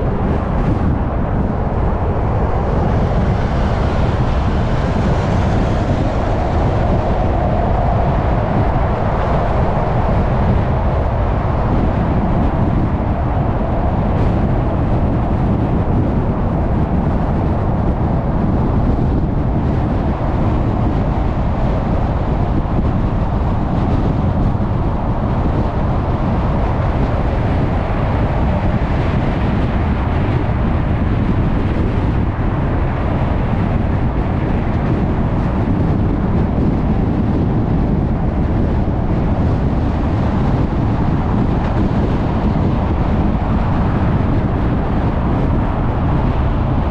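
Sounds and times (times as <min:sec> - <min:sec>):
car tyre and road noise: 0:00.0 - 0:46.9.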